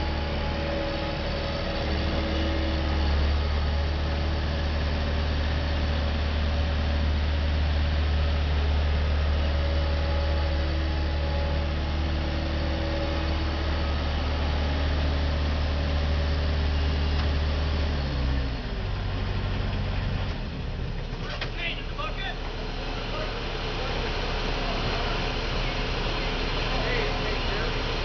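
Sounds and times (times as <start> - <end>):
loader diesel engine running: 0.0 - 28.0.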